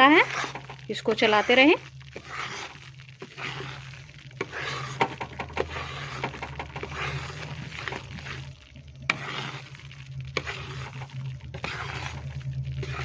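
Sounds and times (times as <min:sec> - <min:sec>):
flour roasting in a pan: 0:00.0 - 0:13.0
spatula scraping and stirring: 0:00.0 - 0:13.0.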